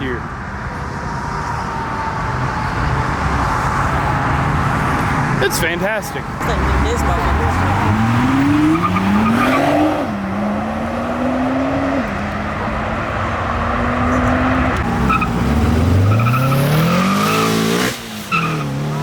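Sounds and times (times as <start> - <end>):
car engine accelerating: 1.2 - 19.0.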